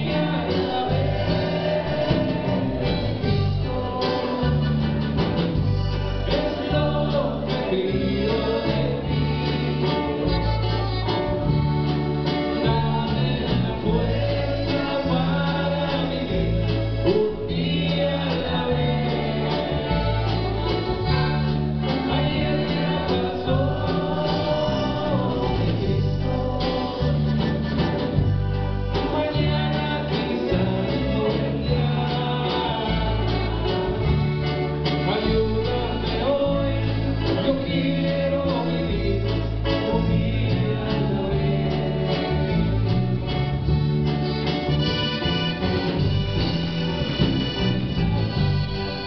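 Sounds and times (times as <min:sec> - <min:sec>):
bass: 0:00.0 - 0:49.0
drum kit: 0:00.0 - 0:49.0
electric guitar: 0:00.0 - 0:49.0
keyboards: 0:00.0 - 0:49.0
lead vocal singing: 0:00.0 - 0:49.0.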